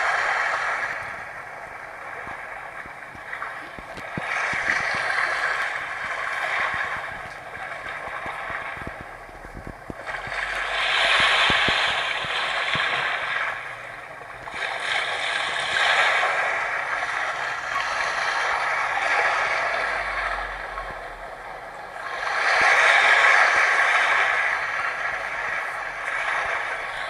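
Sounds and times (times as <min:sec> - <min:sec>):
sea waves breaking on shore: 0:00.0 - 0:27.0.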